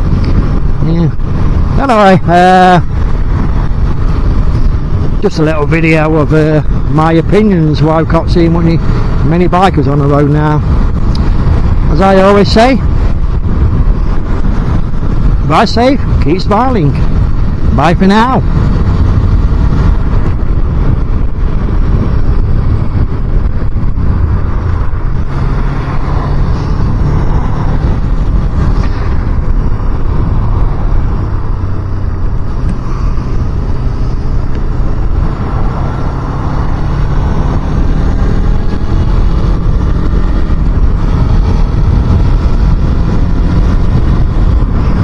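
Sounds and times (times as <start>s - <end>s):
motorcycle engine drone: 0.0s - 45.0s
wind rush on microphone: 0.0s - 45.0s.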